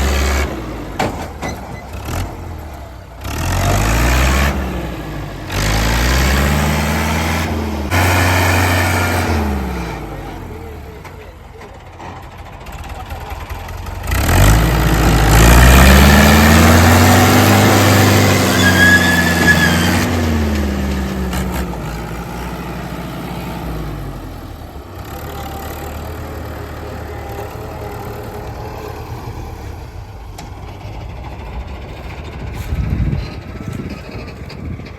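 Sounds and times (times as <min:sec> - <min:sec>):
tractor diesel engine revving: 0:00.0 - 0:34.9.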